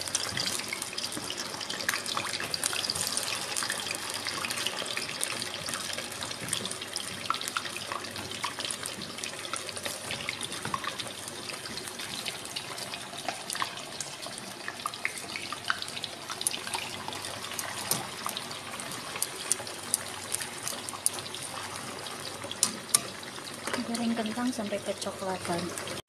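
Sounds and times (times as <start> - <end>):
potato slices sizzling in oil: 0.0 - 26.0.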